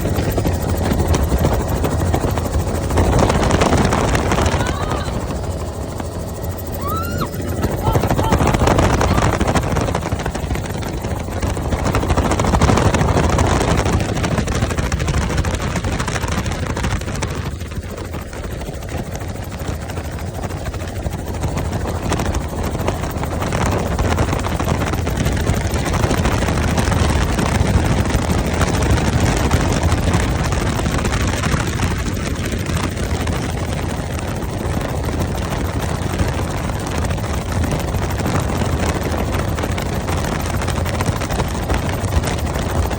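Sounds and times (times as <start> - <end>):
helicopter rotor and engine running: 0.0 - 42.9.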